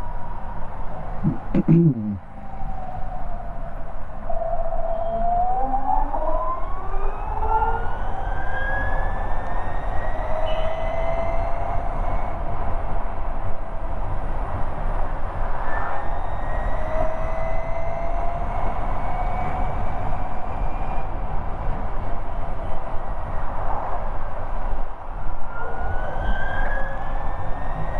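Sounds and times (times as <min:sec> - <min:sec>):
wind and road noise: 0:00.0 - 0:27.9.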